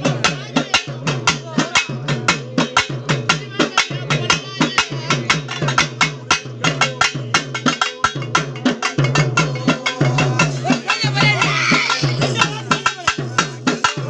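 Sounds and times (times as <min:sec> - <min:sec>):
metal-shelled drums beaten with sticks: 0:00.0 - 0:14.0.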